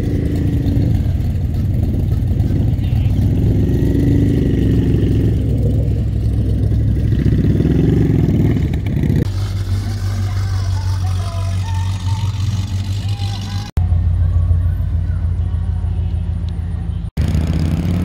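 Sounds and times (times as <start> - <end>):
engine idling: 0.0 - 17.2
car engine rumbling and revving: 0.0 - 18.0.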